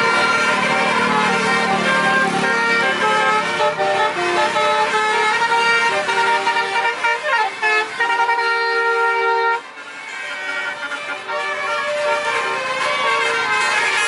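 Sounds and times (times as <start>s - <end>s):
multi-tone air horn tune: 0.0s - 14.0s.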